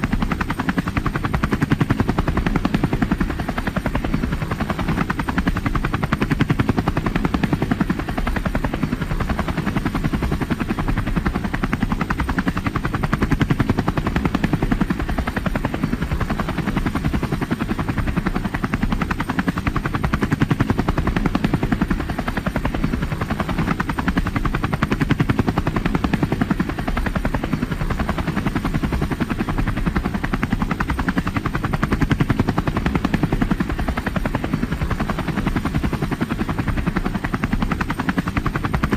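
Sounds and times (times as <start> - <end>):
helicopter engine running: 0.0 - 38.9
helicopter rotor blades chopping: 0.0 - 38.9.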